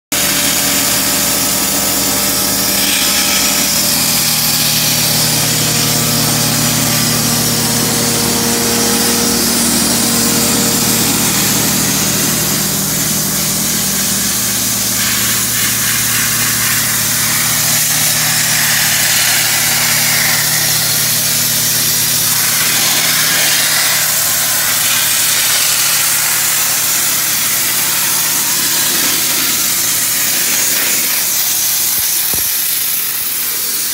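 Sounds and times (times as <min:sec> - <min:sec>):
air compressor engine drone: 0:00.1 - 0:33.9
hiss of grit and water jetting: 0:00.1 - 0:33.9.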